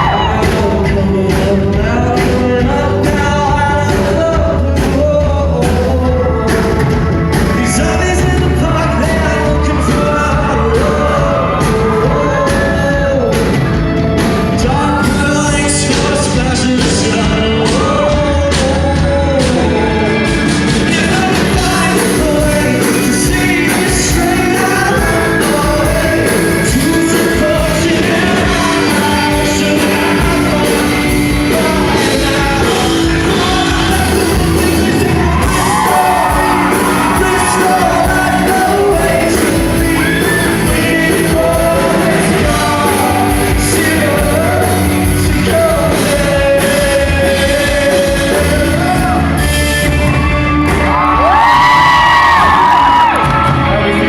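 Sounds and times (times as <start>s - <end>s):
lead vocalist singing: 0.0s - 54.0s
rock band playing live: 0.0s - 54.0s.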